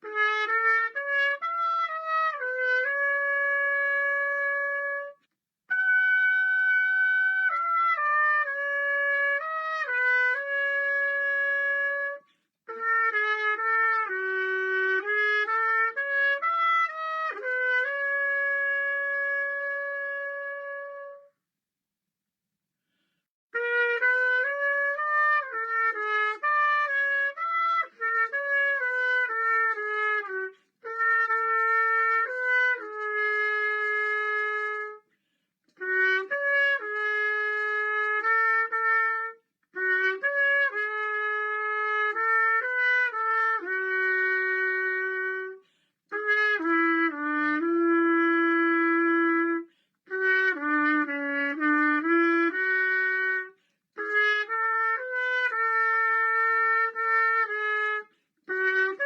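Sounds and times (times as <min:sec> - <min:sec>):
wind instrument melody: 0:00.0 - 0:21.4, 0:23.5 - 0:59.0.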